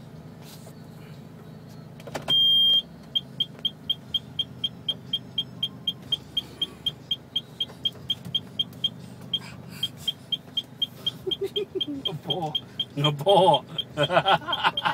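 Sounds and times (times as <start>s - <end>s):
electronic warning beeps: 0.8s - 14.9s.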